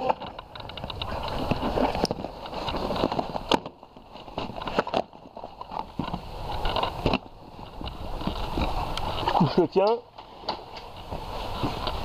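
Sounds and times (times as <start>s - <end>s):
gear rustling and knocking: 0.0s - 12.0s.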